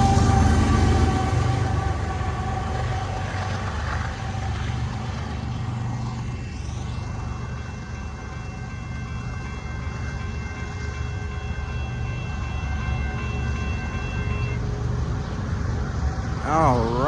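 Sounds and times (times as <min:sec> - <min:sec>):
train cars rumbling on rails: 0:00.0 - 0:17.0.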